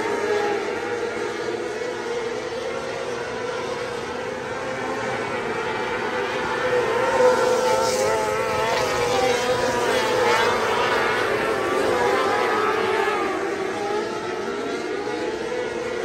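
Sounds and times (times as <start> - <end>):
racing car engines revving: 0.0 - 16.0.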